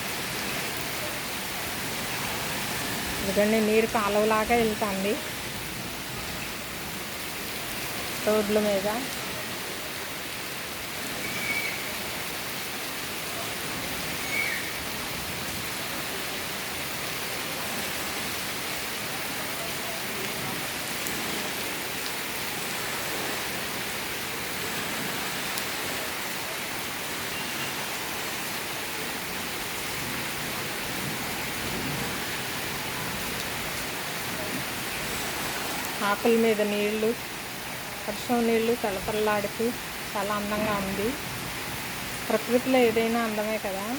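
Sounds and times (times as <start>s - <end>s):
heavy rain downpour: 0.0s - 43.9s.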